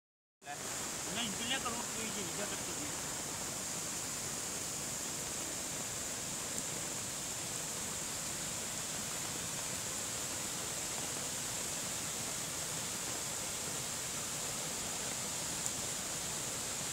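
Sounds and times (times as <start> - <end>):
stream pouring down cascade: 0.4 - 16.9.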